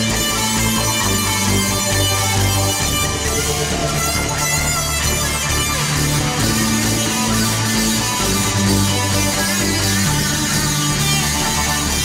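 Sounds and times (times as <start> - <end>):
bass notes: 0.0 - 12.0
electric guitar: 0.0 - 12.0
keyboard chords: 0.0 - 12.0.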